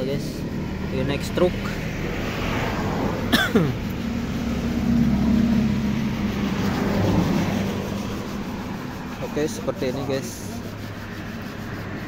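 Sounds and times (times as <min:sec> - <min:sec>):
vehicle engine in passing traffic: 0:00.0 - 0:12.0.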